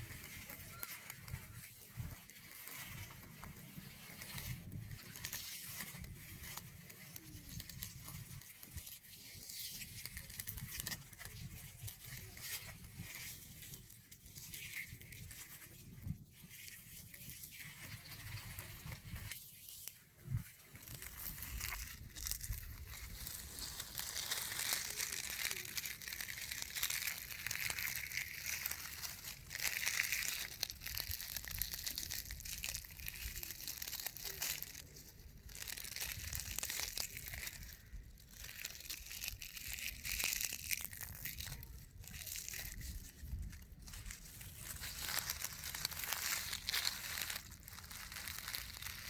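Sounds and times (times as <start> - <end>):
dry grass rustling and crackling: 0.0 - 49.0.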